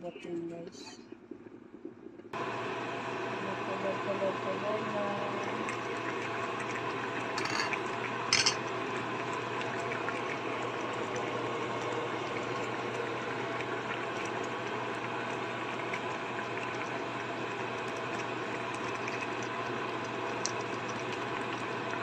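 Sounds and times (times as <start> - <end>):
cooking pot hissing and humming: 2.4 - 22.0.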